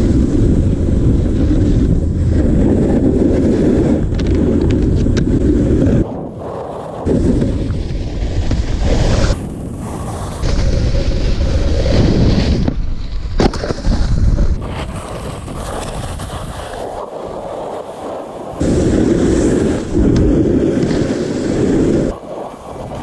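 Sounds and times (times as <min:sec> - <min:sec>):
snowboard scraping over snow: 0:00.0 - 0:23.0
wind buffeting microphone: 0:00.0 - 0:23.0.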